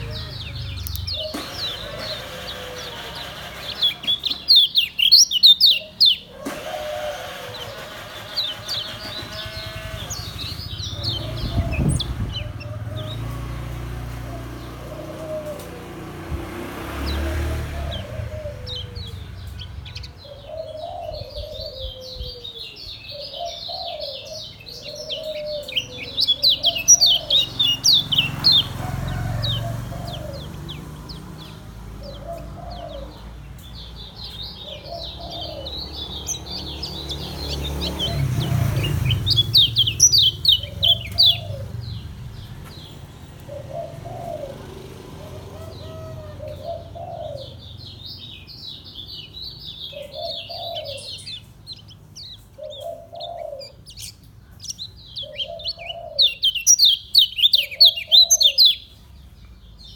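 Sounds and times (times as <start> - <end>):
bird singing high twittering runs: 0.0 - 6.3, 7.1 - 14.9, 18.6 - 44.0, 46.8 - 59.9.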